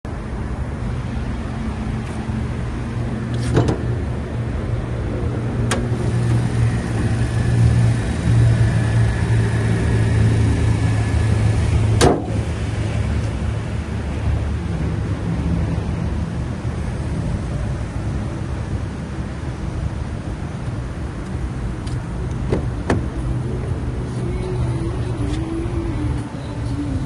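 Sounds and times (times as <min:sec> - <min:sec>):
car engine idling: 0:00.1 - 0:27.0.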